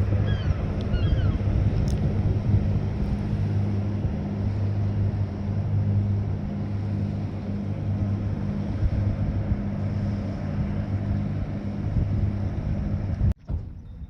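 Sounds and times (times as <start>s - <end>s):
motor engine running: 0.0s - 14.0s.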